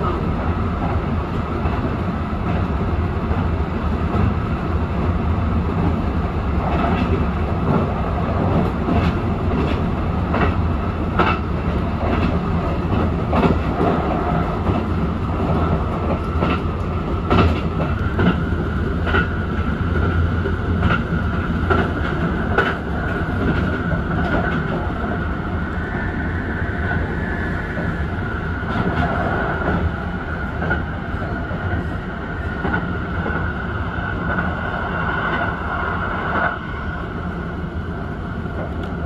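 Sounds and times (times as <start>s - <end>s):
train rumbling at speed: 0.0s - 39.0s.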